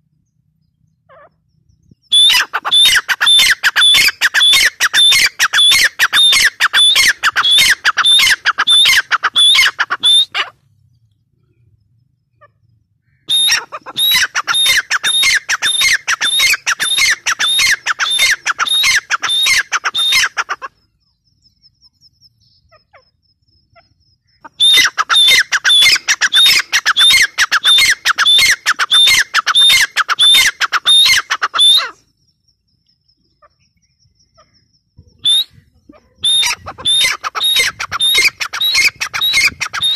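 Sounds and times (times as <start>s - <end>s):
francolin calling: 0.0s - 39.9s.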